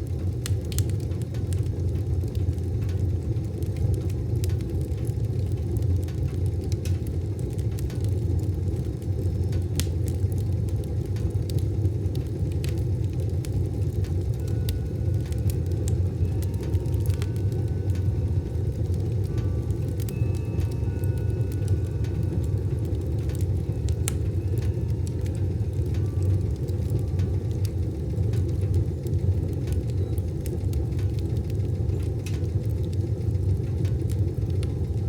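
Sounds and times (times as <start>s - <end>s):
wood fire burning in a stove: 0.0s - 35.0s.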